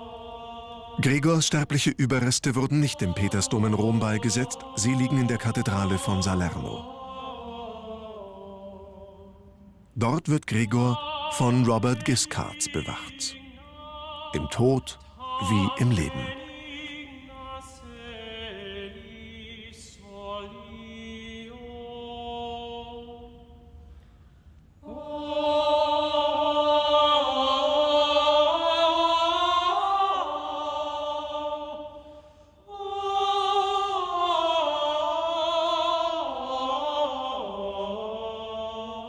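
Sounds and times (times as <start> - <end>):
sung chant: 0.0 - 23.8, 24.8 - 39.0.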